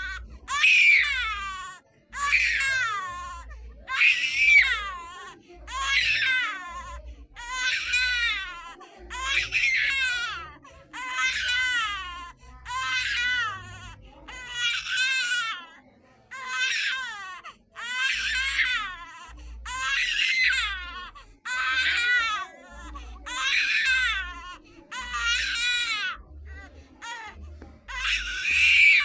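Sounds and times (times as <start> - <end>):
baby crying: 0.0 - 29.0.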